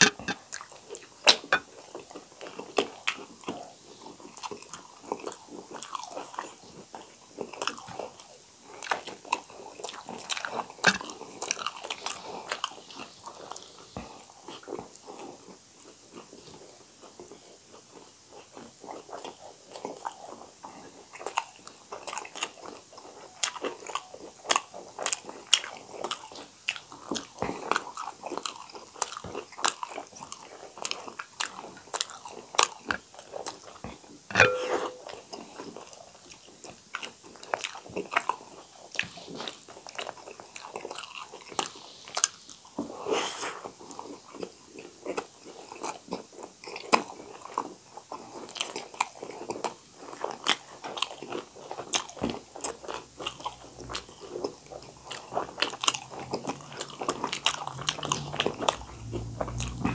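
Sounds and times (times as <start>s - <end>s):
people chewing food: 0.0s - 34.3s, 34.9s - 59.9s.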